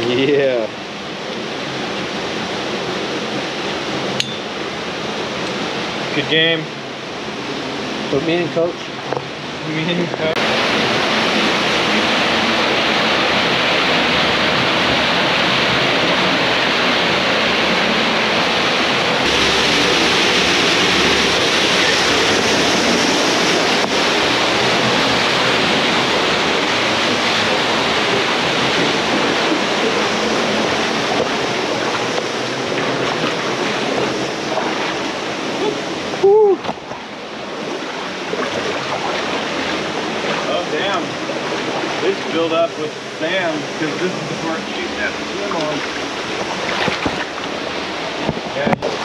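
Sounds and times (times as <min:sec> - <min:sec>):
waterfall rushing into a pool: 0:00.0 - 0:49.0.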